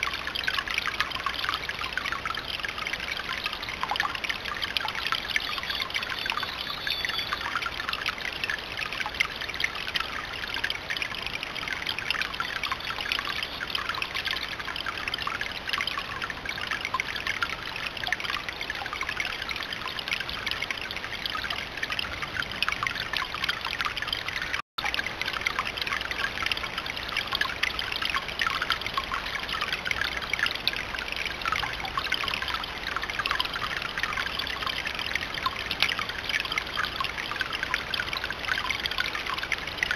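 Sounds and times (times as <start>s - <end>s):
water trickling over rock fountain: 0.0s - 39.9s.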